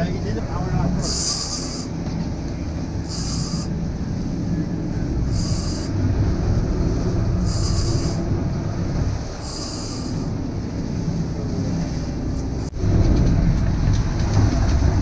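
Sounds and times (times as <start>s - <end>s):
boat engine rumble: 0.0s - 15.0s
wind at sea: 0.0s - 15.0s.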